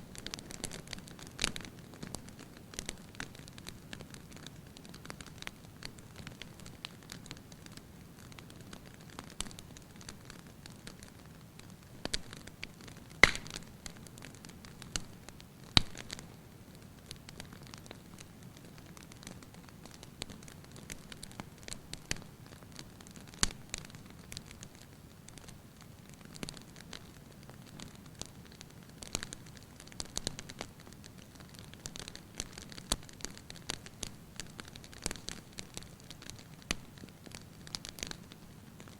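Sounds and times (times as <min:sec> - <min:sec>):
fire burning with crackles and pops: 0:00.0 - 0:38.9.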